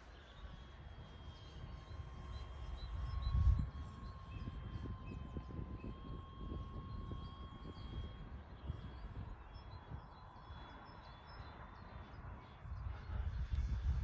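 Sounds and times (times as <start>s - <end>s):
faint model plane motor whine: 0.0s - 14.0s
wind rumbling on microphone: 0.4s - 10.9s, 11.5s - 14.0s.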